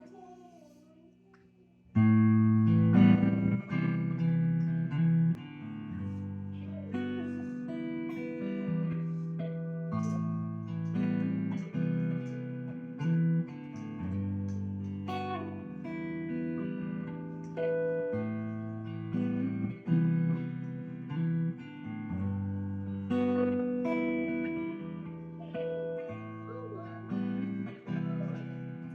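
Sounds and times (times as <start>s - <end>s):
guitar notes and chords: 2.0s - 28.9s.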